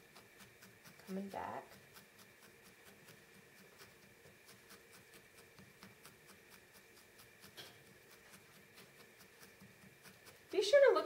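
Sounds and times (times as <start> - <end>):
felting needle ticking: 0.0 - 11.0.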